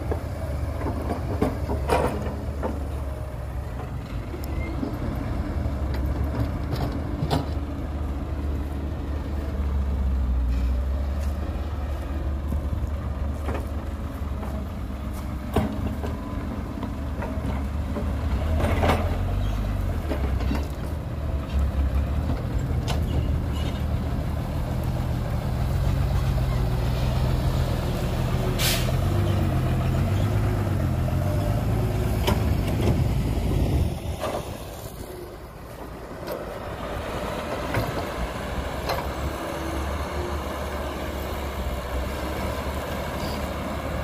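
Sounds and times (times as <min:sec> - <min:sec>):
diesel machinery engine rumble: 0:00.0 - 0:44.0.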